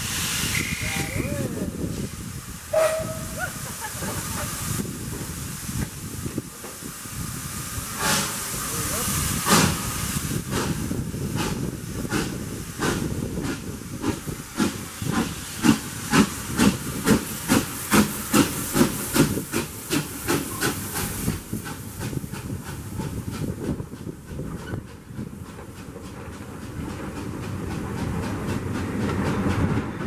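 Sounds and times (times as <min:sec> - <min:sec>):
hissing steam: 0:00.0 - 0:30.0
steam locomotive chuffing: 0:00.0 - 0:30.0.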